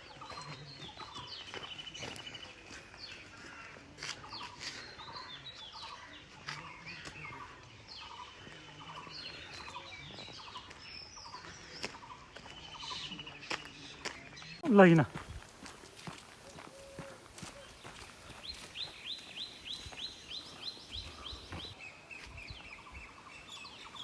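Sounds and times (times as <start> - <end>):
birds calling and chirping: 0.0 - 24.0.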